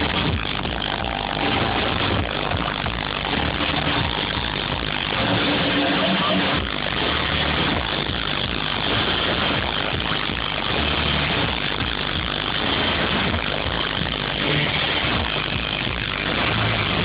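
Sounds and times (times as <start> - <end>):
loud electronic dance music: 0.0 - 17.0.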